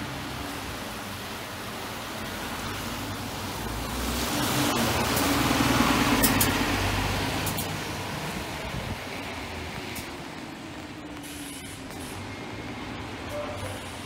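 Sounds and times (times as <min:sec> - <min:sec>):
bus engine hum: 0:00.0 - 0:14.0
tyre hiss on wet road: 0:00.0 - 0:14.0.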